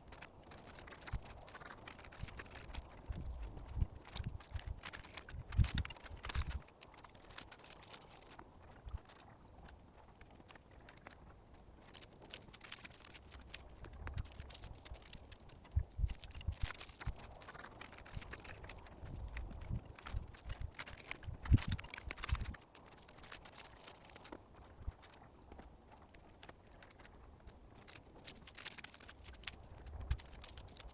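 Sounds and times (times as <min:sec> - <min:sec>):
dry leaves rustling and crackling: 0:00.0 - 0:09.2, 0:11.8 - 0:25.3, 0:27.6 - 0:30.9.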